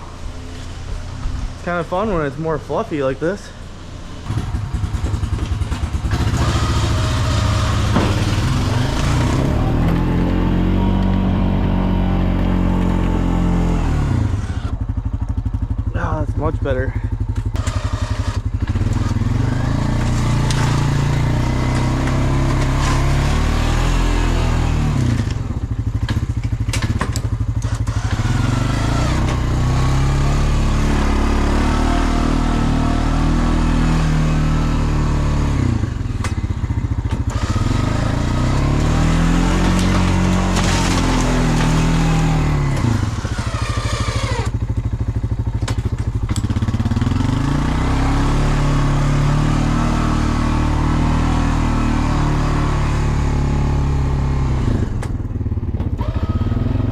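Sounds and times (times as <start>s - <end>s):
snow plow engine under load: 0.0s - 56.9s.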